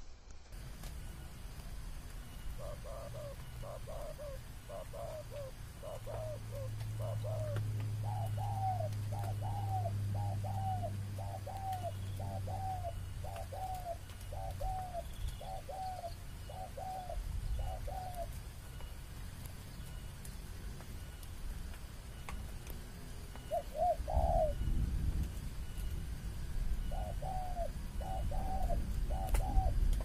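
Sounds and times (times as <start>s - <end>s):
doves cooing: 0.8s - 21.2s, 22.1s - 30.0s.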